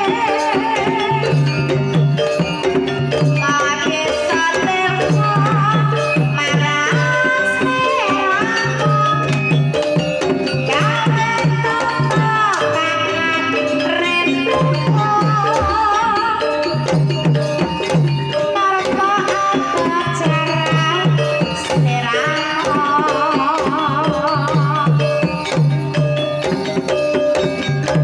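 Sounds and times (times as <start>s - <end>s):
woman singing ornamented melody: 0.0s - 26.0s
gamelan ensemble: 0.0s - 28.0s
hand drum rhythm: 0.0s - 28.0s.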